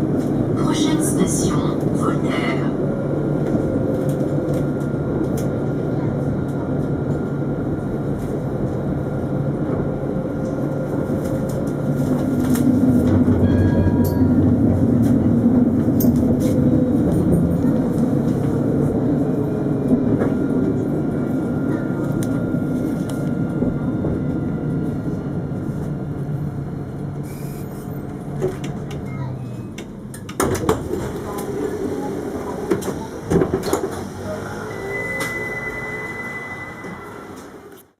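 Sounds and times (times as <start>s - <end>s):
tram motor whine: 0.0s - 37.9s
tram rumbling: 0.0s - 37.9s.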